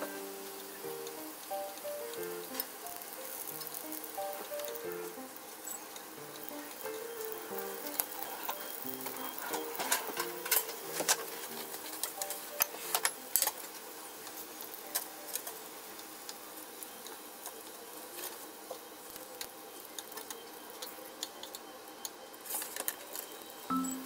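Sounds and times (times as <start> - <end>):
spring rolls sizzling in oil: 0.0 - 23.7.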